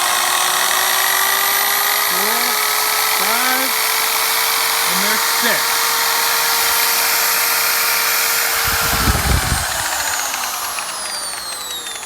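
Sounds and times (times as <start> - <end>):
polisher motor whine: 0.0 - 12.0.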